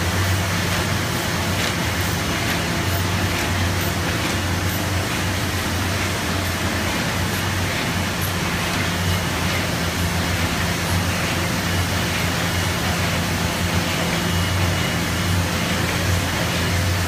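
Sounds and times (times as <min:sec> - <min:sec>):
laminating machine running: 0:00.0 - 0:17.0.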